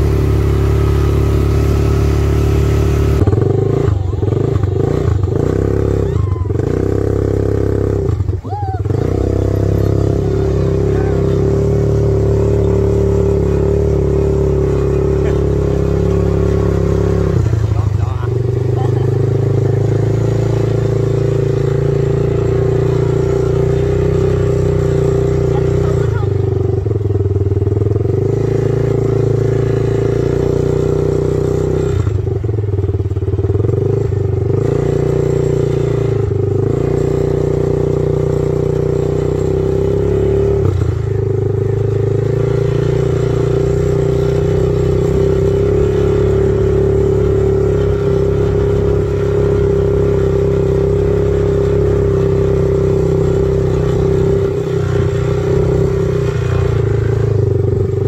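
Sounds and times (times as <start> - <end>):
quad bike engine droning: 0.0 - 58.0.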